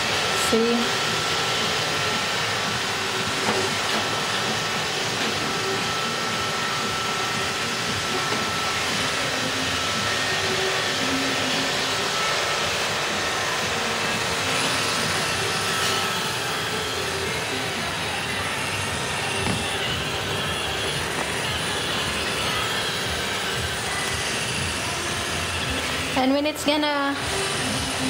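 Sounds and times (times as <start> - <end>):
robot vacuum whirring: 2.8 - 26.3.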